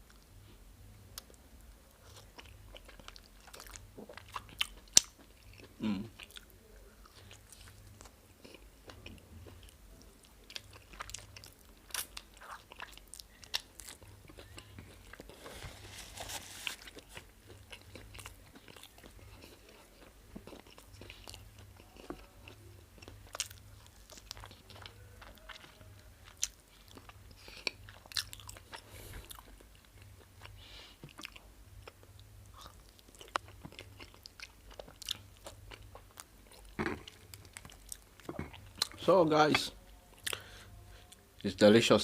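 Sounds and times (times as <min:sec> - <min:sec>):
low steady hum: 0:00.0 - 0:42.0
person chewing: 0:01.1 - 0:39.0, 0:39.8 - 0:41.2.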